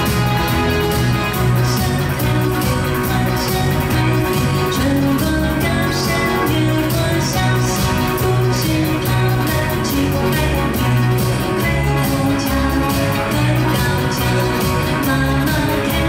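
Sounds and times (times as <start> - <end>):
live pop-rock band: 0.0 - 16.0
woman singing: 1.0 - 16.0.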